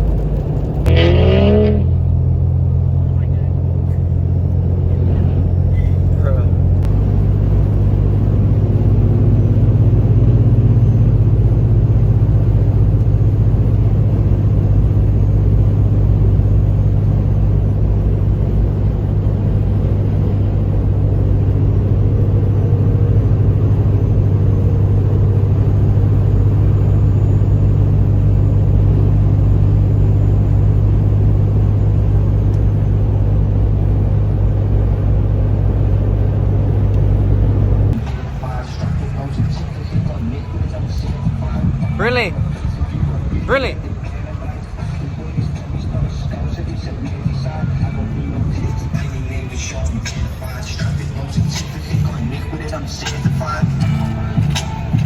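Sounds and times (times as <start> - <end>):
road rumble: 0.0 - 55.0
truck engine drone: 0.0 - 55.0.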